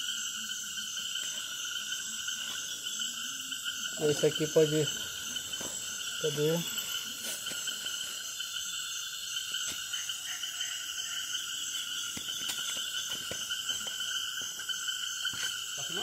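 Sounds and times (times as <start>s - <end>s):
frogs and insects chorus: 0.0s - 16.0s.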